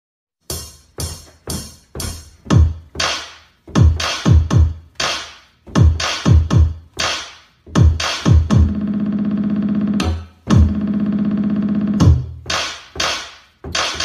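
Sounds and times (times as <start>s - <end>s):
drum machine beat with deep kick: 0.4s - 14.0s.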